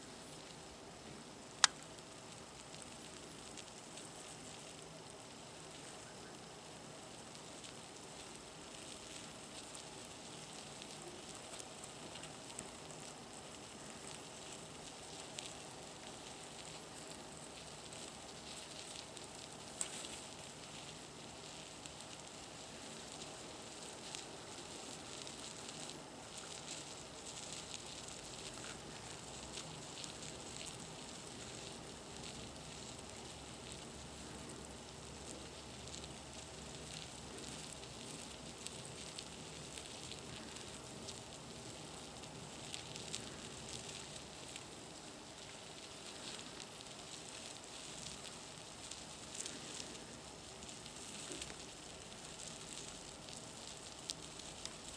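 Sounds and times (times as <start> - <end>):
small ticks and clicks: 0.0 - 54.9
worms rustling in wood shavings: 0.0 - 54.9.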